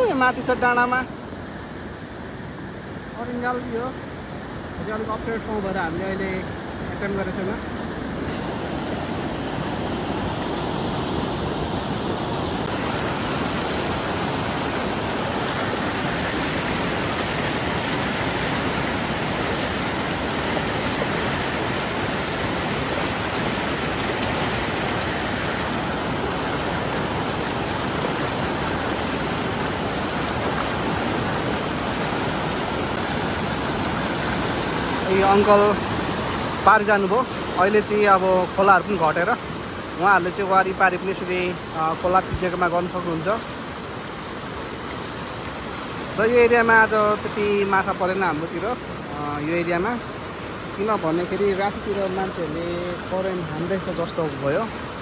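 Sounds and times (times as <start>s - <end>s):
river rapids rushing over boulders: 0.0s - 55.0s.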